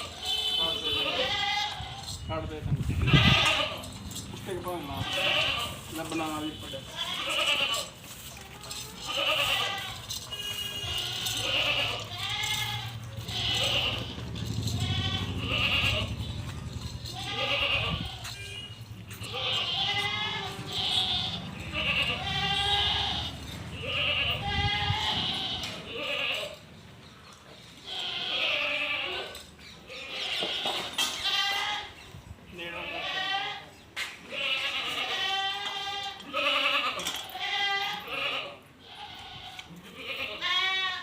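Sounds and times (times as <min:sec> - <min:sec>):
goats bleating: 0:00.0 - 0:26.6, 0:27.8 - 0:41.0.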